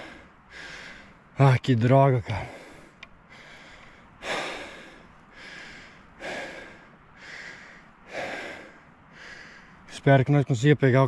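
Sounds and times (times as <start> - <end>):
man breathing heavily: 0.0 - 1.4, 2.2 - 9.9.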